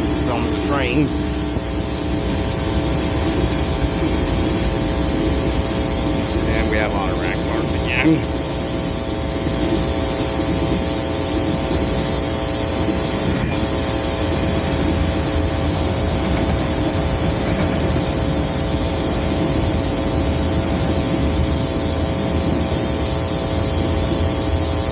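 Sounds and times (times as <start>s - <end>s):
steel wheels rumbling on rail: 0.0s - 24.9s.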